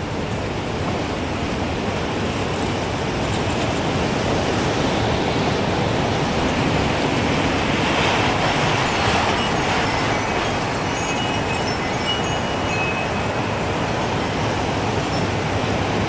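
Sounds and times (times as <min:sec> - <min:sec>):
strong gusting wind: 0:00.0 - 0:16.0.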